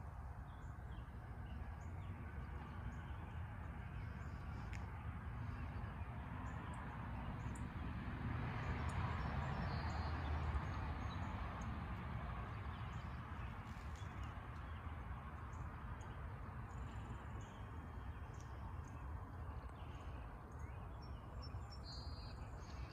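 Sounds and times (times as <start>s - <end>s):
songbirds chirping: 0.0s - 22.9s.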